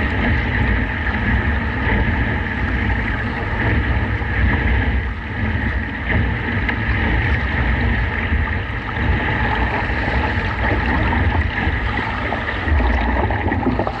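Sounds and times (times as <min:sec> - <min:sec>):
water splashing around kayak: 0:00.0 - 0:14.0
wind buffeting microphone: 0:00.0 - 0:14.0.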